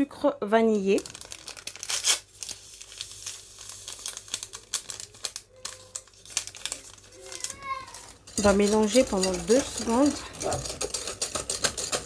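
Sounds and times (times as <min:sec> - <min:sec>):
paper sachet crinkling: 0:00.7 - 0:11.0.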